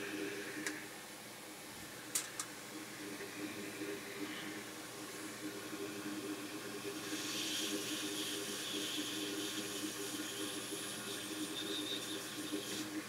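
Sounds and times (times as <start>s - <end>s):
hot air blower hissing: 0.0s - 0.9s, 3.4s - 13.0s.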